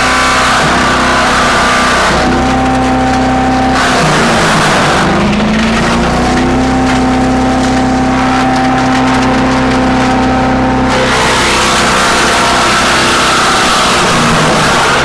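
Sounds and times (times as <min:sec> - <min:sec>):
wood chipper engine running: 0:00.0 - 0:15.0
wood chipping noise: 0:00.0 - 0:15.0.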